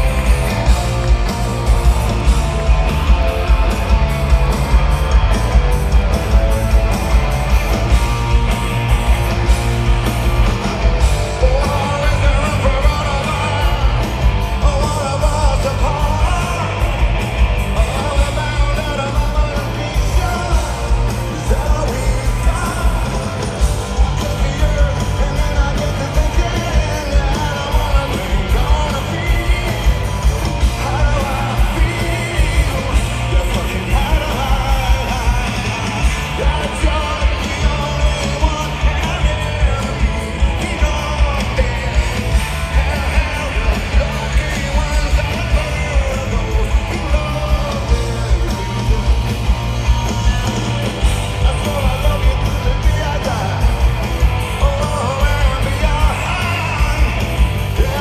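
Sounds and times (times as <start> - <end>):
live rock band: 0.0 - 58.0
shouted lead vocal: 0.0 - 58.0.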